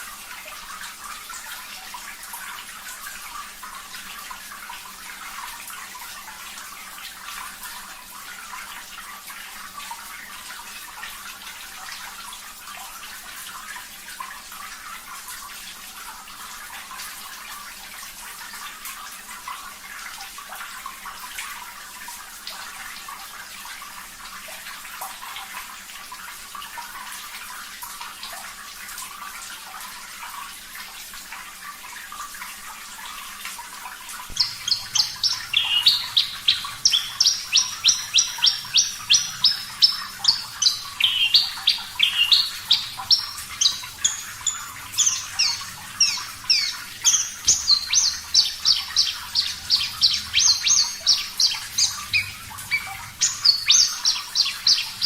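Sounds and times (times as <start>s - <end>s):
running water splashing: 0.0s - 55.0s.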